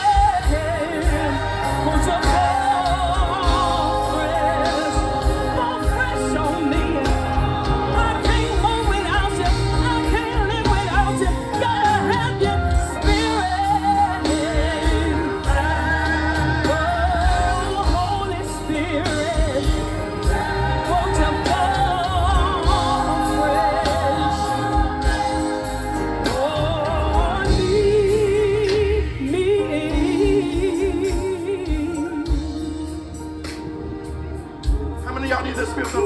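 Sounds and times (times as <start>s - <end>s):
person singing with vibrato: 0.0s - 33.4s
band with strong bass line: 0.0s - 36.0s.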